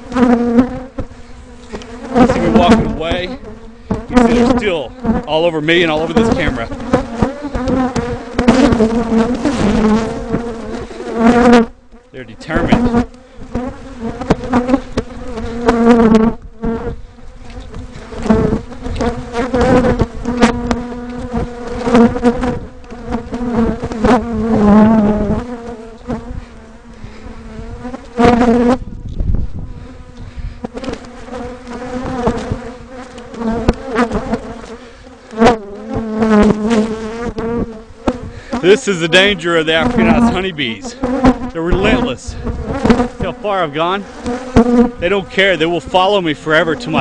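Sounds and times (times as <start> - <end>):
bees knocking on camera: 0.0 - 26.3, 30.1 - 38.7, 39.8 - 40.2, 40.9 - 45.2
bees buzzing loudly: 0.0 - 47.0.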